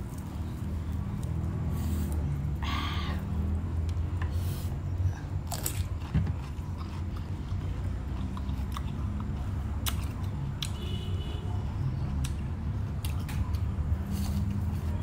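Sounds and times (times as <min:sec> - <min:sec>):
chewing raw chives: 0:00.0 - 0:02.6, 0:03.3 - 0:10.8, 0:12.0 - 0:15.0.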